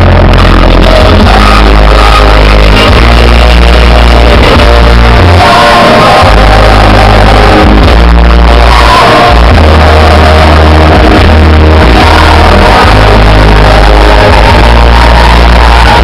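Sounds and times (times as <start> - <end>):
heavy bass line: 0.0 - 16.0
loud live music: 0.0 - 16.0
singers' voices: 0.0 - 16.0
audience shouting along: 0.2 - 16.0.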